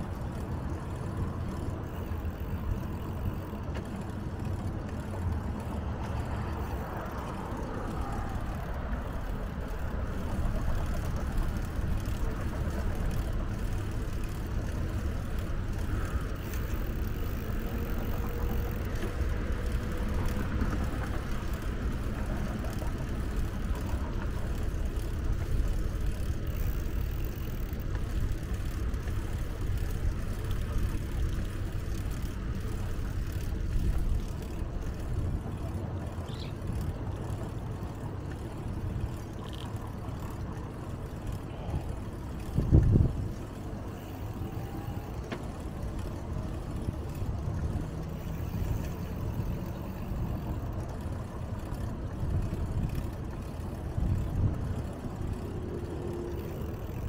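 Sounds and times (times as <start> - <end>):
road and traffic rumble: 0.0 - 57.0.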